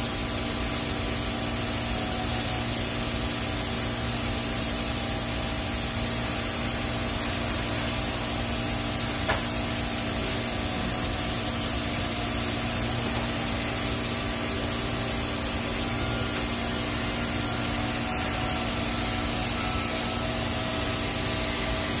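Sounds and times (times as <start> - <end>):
welding arc hissing: 0.0 - 22.0.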